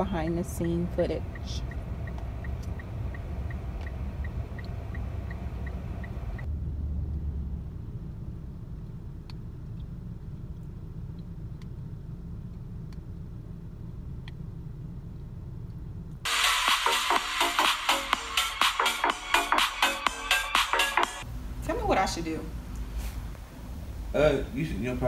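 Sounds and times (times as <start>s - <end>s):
low outdoor rumble: 0.0s - 16.4s, 21.1s - 25.0s.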